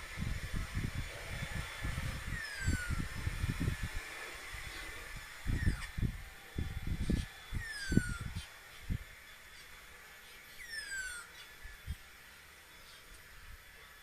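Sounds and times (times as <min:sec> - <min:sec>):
birds calling with falling whistles: 0:01.5 - 0:13.4.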